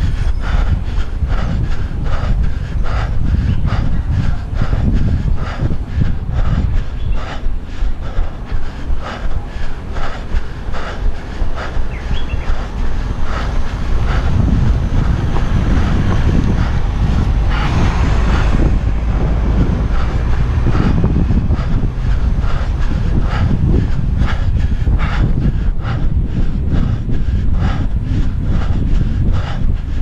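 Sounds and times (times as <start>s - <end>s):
running footsteps on pavement: 0.0s - 30.0s
wind buffeting microphone: 0.0s - 30.0s.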